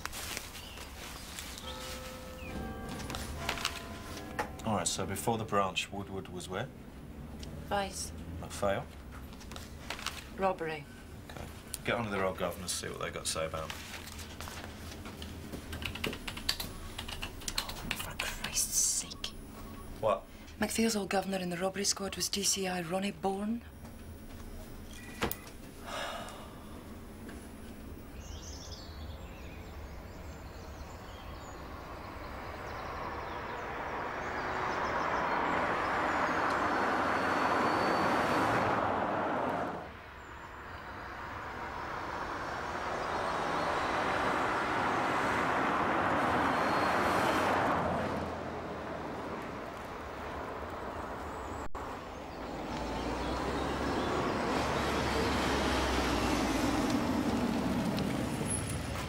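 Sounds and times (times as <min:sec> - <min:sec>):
car passing on road: 0:00.0 - 0:20.6, 0:23.3 - 0:59.0.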